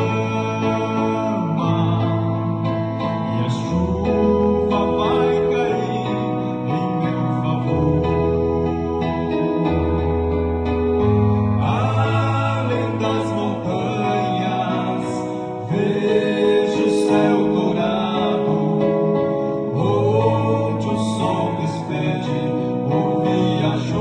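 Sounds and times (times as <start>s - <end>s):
men singing in harmony: 0.0s - 10.1s, 11.5s - 24.0s
instrumental chords and bass: 0.0s - 24.0s.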